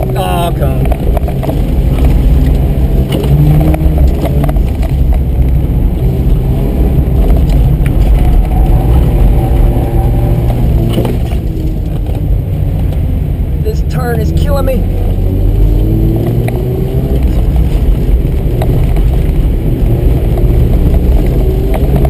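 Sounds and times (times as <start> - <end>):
rotary engine under hard driving: 0.0 - 22.0.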